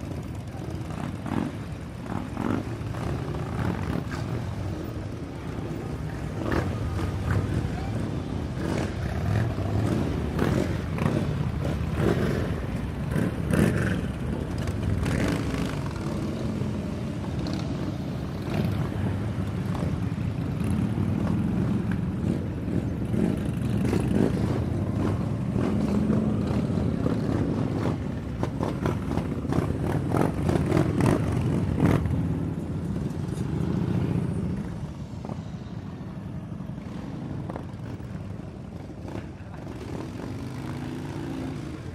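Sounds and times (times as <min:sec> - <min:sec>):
motorcycle engines running: 0:00.0 - 0:41.9.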